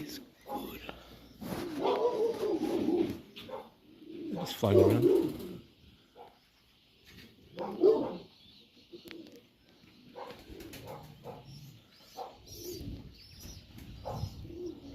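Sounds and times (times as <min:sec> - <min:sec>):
pigeons cooing: 0:00.0 - 0:06.4, 0:07.1 - 0:14.9.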